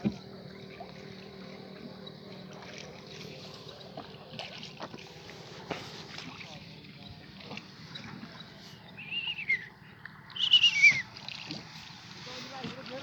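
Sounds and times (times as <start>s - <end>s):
boat motor low hum: 0.0s - 13.0s
water sounds: 0.0s - 13.0s.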